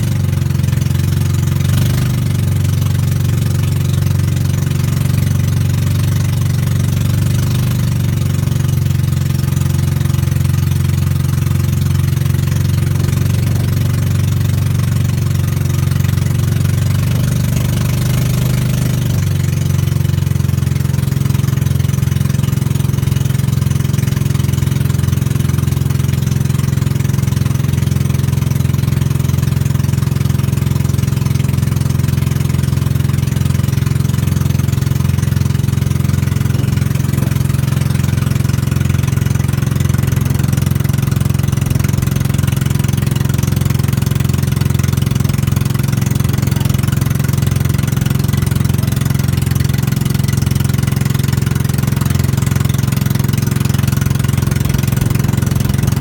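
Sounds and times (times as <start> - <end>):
boat engine drone: 0.0 - 56.0.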